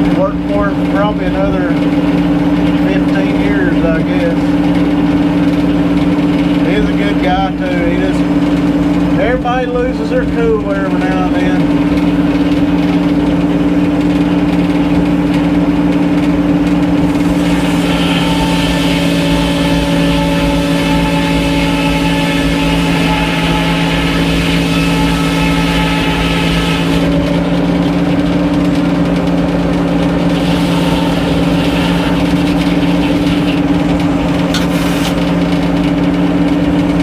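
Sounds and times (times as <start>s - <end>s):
high machine whine: 0.0s - 37.0s
sawmill machinery droning: 0.0s - 37.0s.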